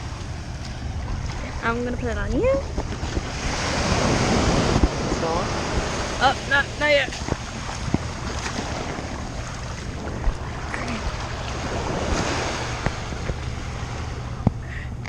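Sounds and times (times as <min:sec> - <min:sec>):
ocean surf washing on shore: 0:00.0 - 0:14.8
wind buffeting microphone: 0:00.0 - 0:15.0.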